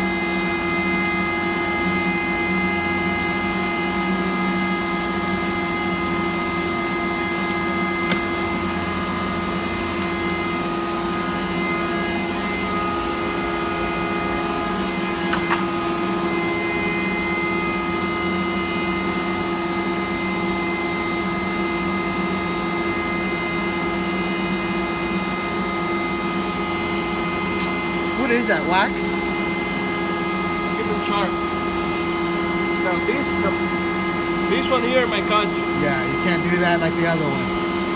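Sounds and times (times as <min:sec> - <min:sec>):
shop machinery humming: 0:00.0 - 0:37.9.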